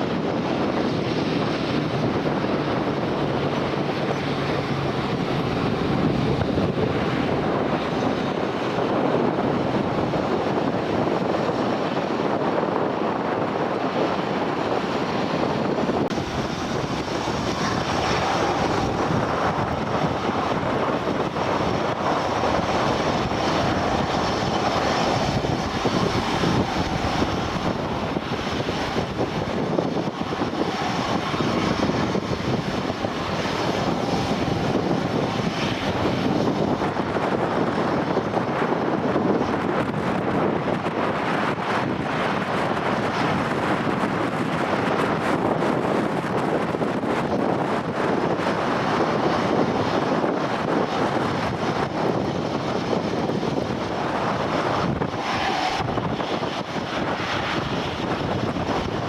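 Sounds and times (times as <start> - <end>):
airplane engine rushing: 0.0 - 59.0
wind: 0.0 - 59.0.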